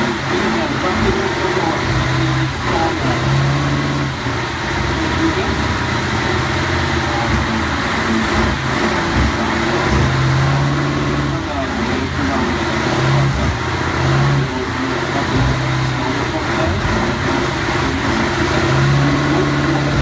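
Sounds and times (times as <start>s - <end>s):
tires spinning on wet track: 0.0s - 20.0s
truck diesel engine revving: 0.0s - 20.0s.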